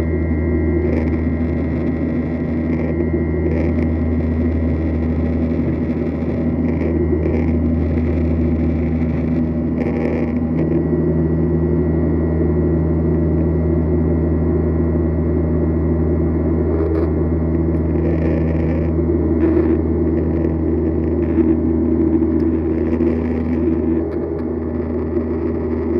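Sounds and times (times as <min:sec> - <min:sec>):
jet engines droning in cabin: 0:00.0 - 0:25.9.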